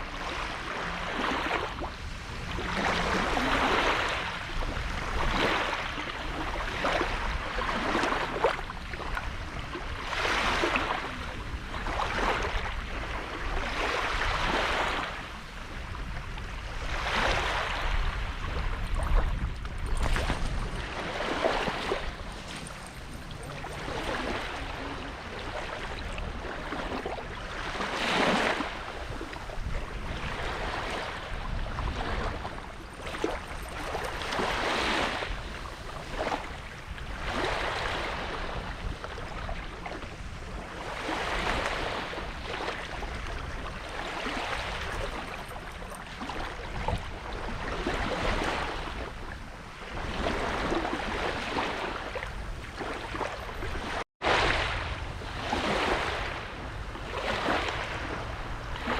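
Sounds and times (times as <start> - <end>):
small waves washing onto beach: 0.0 - 58.9
wind on microphone: 0.0 - 58.9.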